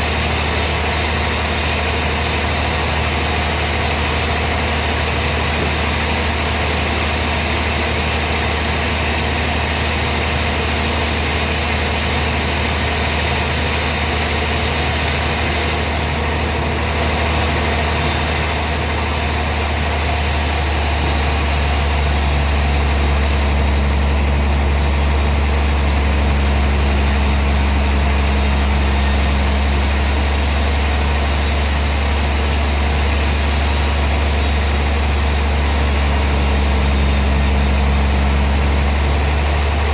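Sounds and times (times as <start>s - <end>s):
constant noisy whir: 0.0s - 39.9s
sawmill machinery humming: 0.0s - 39.9s.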